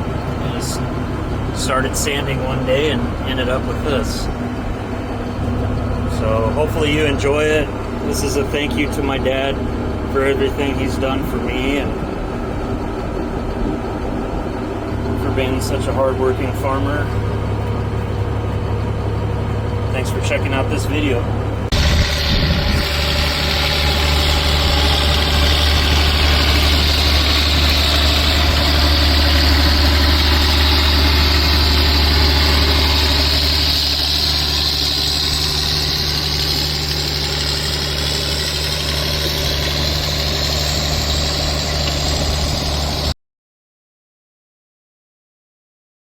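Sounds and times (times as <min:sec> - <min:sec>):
diesel tractor engine idling: 0:00.0 - 0:43.2.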